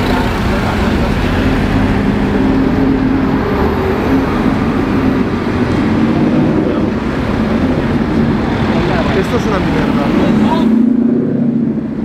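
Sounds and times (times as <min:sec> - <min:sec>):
car engine and road noise: 0:00.0 - 0:12.0
nearby traffic: 0:00.0 - 0:12.0.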